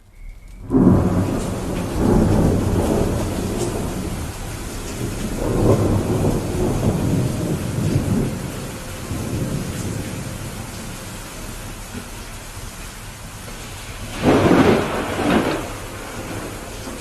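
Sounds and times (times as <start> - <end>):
steady hiss of rain: 0.0 - 17.0
rolling thunder: 0.6 - 17.0.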